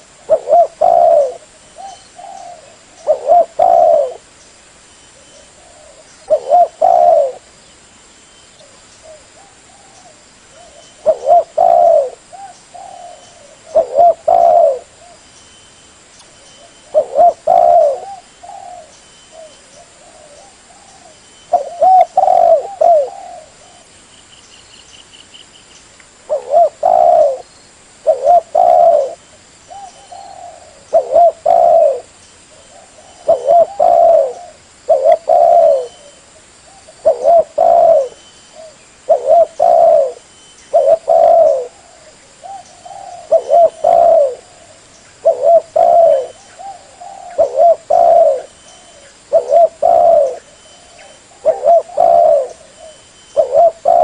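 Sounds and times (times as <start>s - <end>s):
dove cooing: 0.0s - 4.3s, 5.2s - 7.5s, 8.6s - 15.2s, 16.6s - 23.9s, 26.3s - 54.0s.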